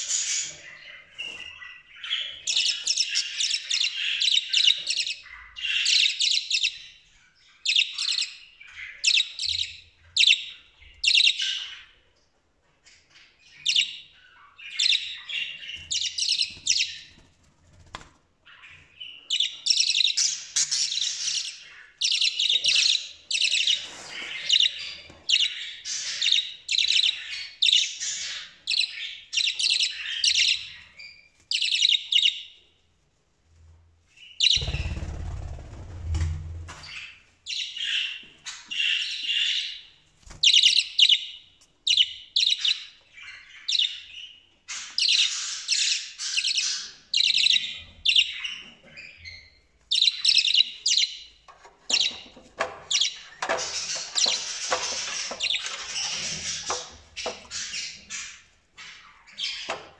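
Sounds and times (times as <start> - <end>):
budgerigars chirping and chattering: 0.0 - 12.0, 12.8 - 17.3, 18.5 - 32.6, 34.2 - 35.8, 36.8 - 59.9.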